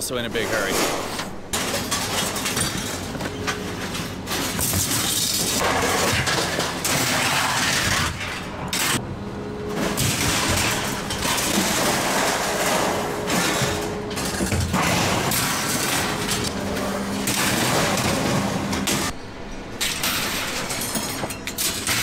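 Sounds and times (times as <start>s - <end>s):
scrap metal clattering and crashing: 0.3s - 9.0s, 9.7s - 22.0s.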